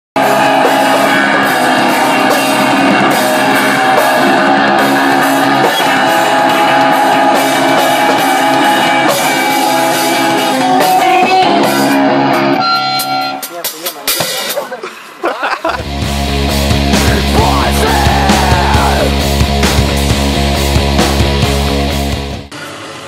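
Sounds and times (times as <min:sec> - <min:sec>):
electric guitar: 0:00.2 - 0:13.5, 0:15.8 - 0:23.0
drums: 0:00.2 - 0:23.0.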